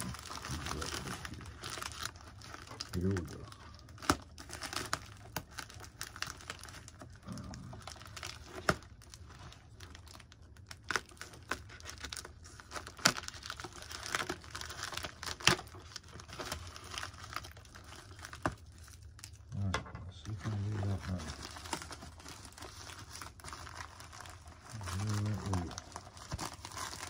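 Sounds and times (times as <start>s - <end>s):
plastic mailer bag crinkling and tearing: 0.0s - 27.0s.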